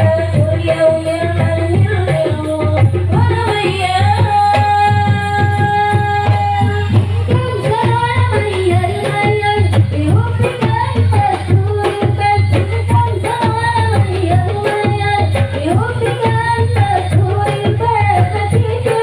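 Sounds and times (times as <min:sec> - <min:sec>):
hand drums beating: 0:00.0 - 0:19.0.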